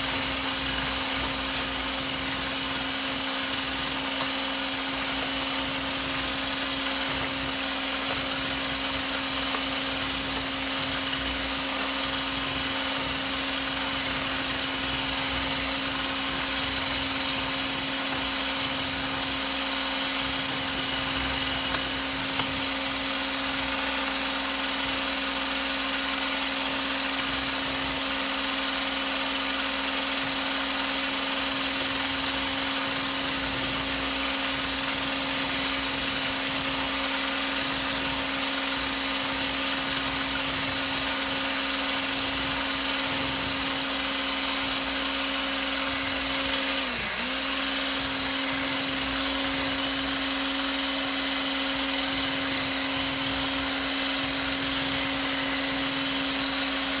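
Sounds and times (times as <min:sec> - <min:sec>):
electric frother whirring: 0:00.0 - 0:57.0.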